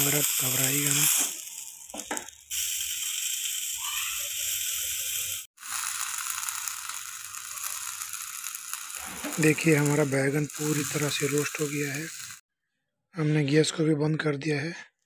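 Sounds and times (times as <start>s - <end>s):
eggplant sizzling over flame: 0.0s - 12.4s.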